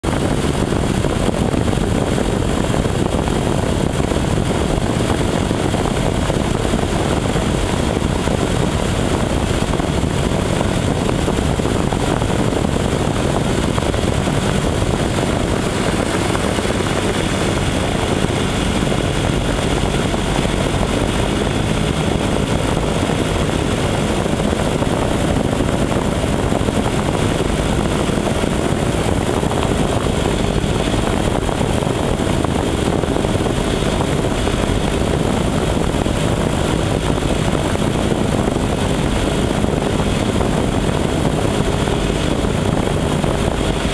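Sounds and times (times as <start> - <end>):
propeller aircraft engine drone: 0.0 - 43.9.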